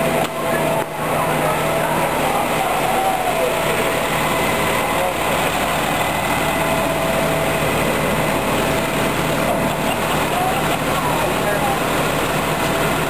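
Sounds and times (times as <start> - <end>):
fire engine idling: 0.0 - 13.0.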